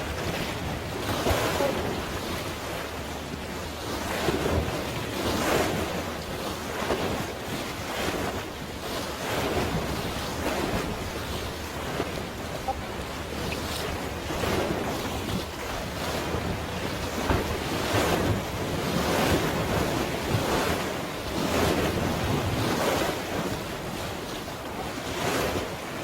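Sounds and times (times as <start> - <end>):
sea waves splashing: 0.0 - 26.0
wind buffeting microphone: 0.0 - 26.0.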